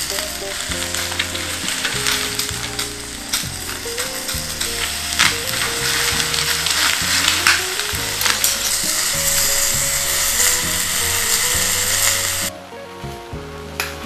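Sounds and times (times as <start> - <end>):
background music: 0.0 - 14.0
loud steady hiss: 0.0 - 14.0.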